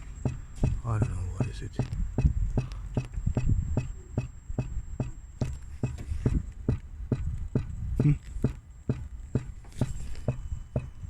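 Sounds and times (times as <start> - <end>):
regular clicking: 0.0 - 11.0.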